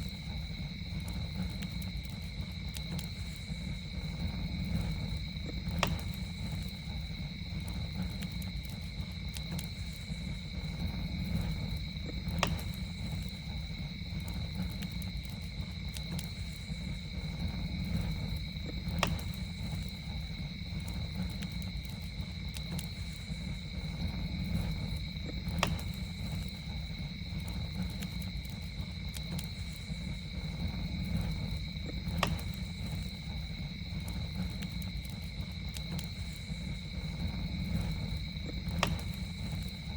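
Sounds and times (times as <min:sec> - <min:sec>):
campfire burning with crackling pops: 0:00.0 - 0:39.9.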